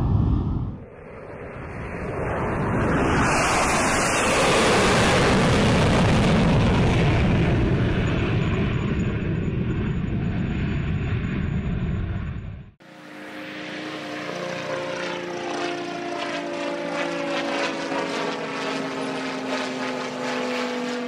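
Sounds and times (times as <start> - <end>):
airliner engine roar overhead: 0.0 - 21.0.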